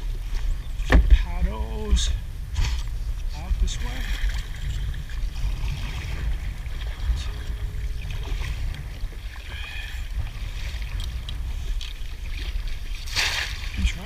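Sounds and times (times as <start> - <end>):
steady low rumble: 0.0 - 14.0
kayak paddle splashing: 2.2 - 14.0.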